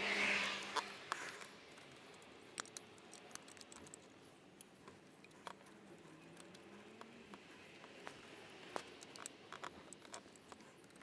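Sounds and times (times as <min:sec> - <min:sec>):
hand tools clicking on metal: 0:00.6 - 0:11.0.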